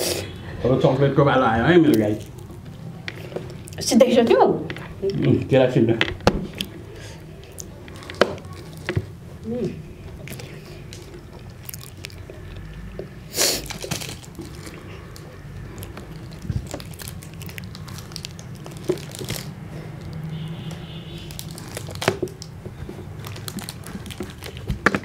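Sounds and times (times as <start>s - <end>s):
plastic wrapper crinkling: 1.8s - 3.9s, 6.4s - 25.0s.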